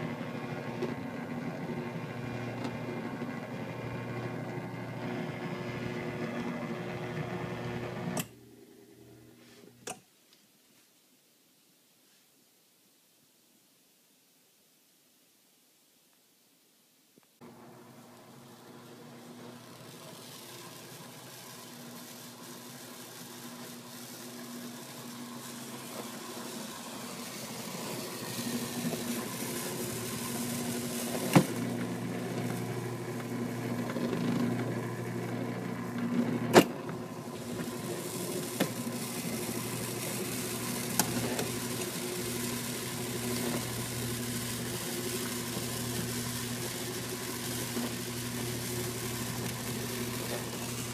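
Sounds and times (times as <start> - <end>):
motor hum: 0.0 - 9.4, 17.4 - 50.9.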